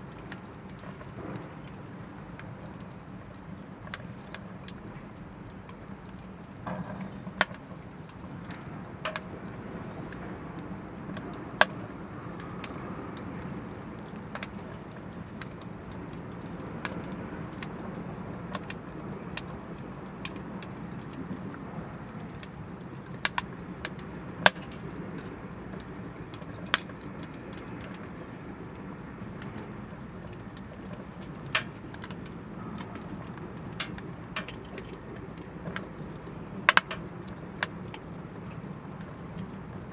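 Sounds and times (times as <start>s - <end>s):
firewood crackling and popping: 0.0s - 39.9s
low rush of fire: 0.0s - 39.9s.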